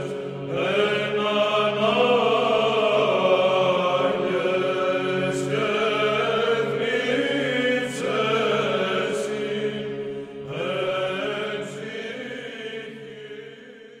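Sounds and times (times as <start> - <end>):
choir chanting: 0.0 - 14.0.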